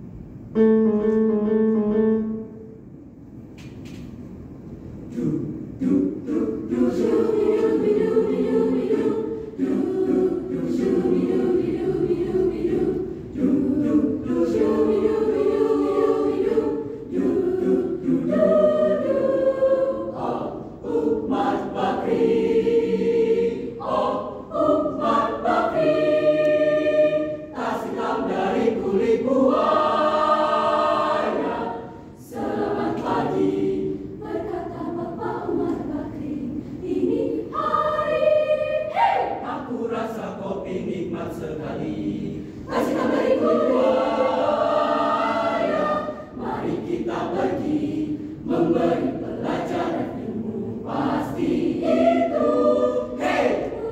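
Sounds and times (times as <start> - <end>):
mixed choir singing in harmony: 5.0 - 53.9.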